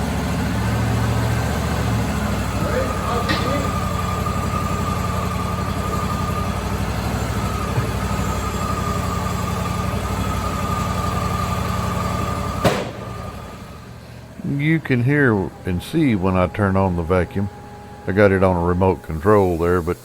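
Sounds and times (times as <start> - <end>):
sawmill machinery humming: 0.0 - 20.0
high machine whine: 1.4 - 20.0.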